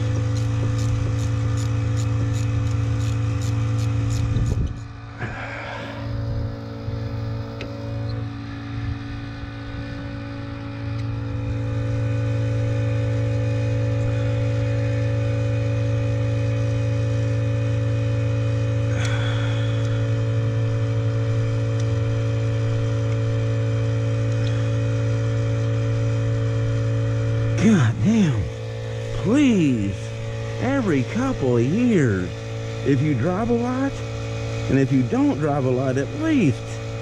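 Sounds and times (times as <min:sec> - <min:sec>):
motor drone: 0:00.0 - 0:37.0.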